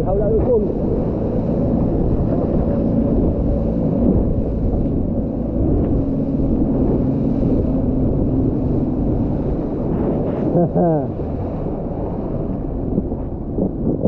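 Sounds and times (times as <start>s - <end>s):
motorboat engine rumbling: 0.0s - 14.0s
rushing water: 0.0s - 14.0s
wind buffeting microphone: 0.0s - 14.0s.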